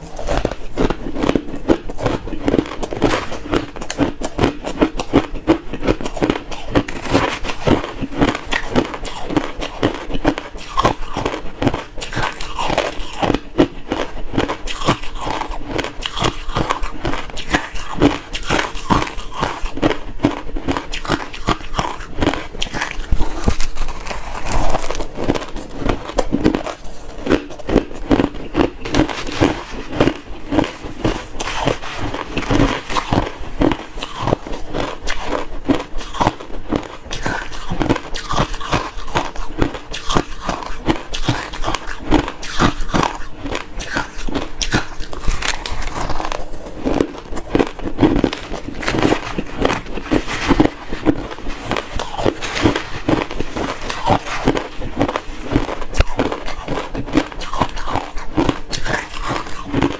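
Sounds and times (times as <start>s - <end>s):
chewing crushed ice: 0.0s - 59.9s.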